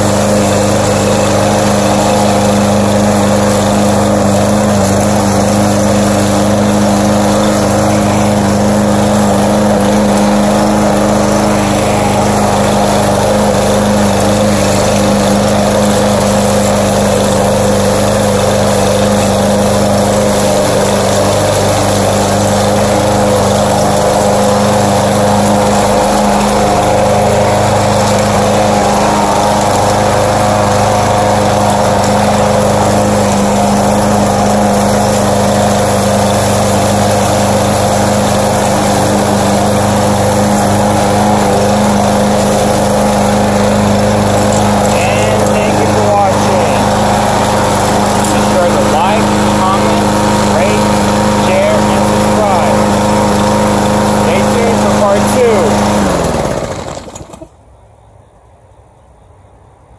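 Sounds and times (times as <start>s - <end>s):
lawn mower running: 0.0s - 59.9s.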